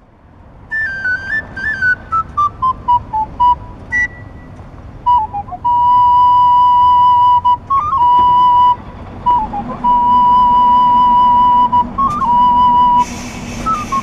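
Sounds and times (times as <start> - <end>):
recorder melody: 0.7 - 14.0.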